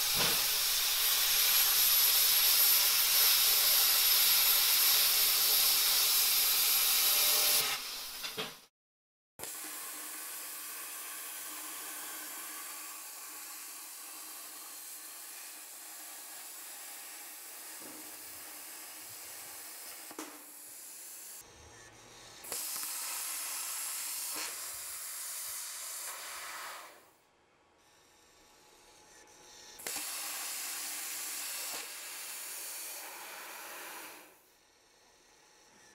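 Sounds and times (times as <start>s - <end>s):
plasma cutter arc hissing: 0.0s - 8.6s, 9.4s - 21.4s, 22.3s - 27.1s, 29.7s - 34.4s.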